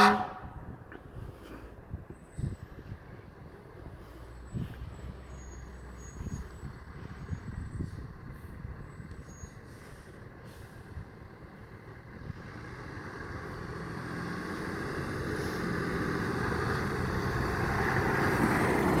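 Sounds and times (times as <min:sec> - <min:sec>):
motor vehicle running: 0:00.0 - 0:19.0.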